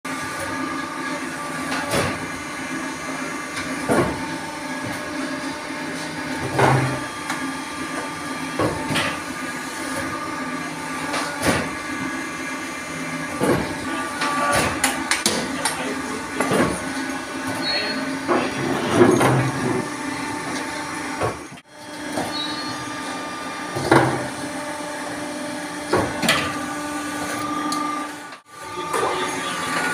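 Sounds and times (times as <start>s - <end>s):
knocks and clanks in mixer: 0.1s - 29.9s
mixer machine hum: 0.1s - 29.9s.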